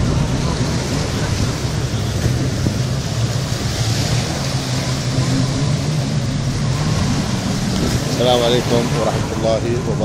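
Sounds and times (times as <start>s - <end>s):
jet ski engine drone: 0.0s - 10.0s
wind and water rushing: 0.0s - 10.0s.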